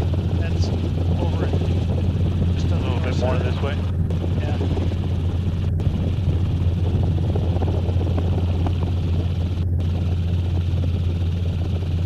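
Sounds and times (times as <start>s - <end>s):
helicopter rotor and turbine drone: 0.0s - 12.0s.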